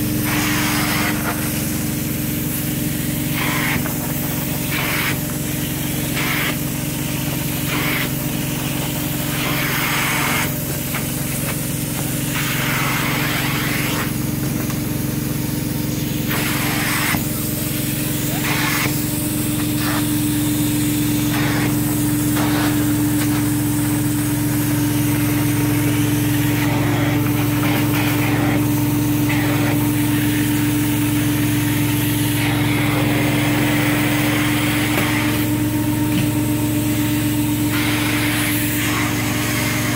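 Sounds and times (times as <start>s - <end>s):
carpet cleaning unit droning: 0.0s - 39.9s
spray and vacuum suction hissing: 0.0s - 39.9s.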